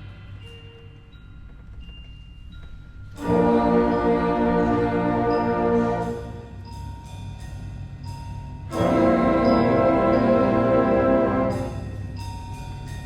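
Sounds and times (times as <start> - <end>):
soft bell-like notes: 0.0 - 13.0.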